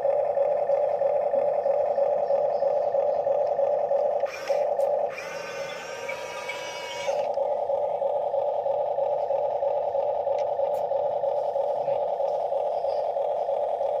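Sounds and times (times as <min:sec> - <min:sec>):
toy excavator motors whirring: 0:00.0 - 0:14.0.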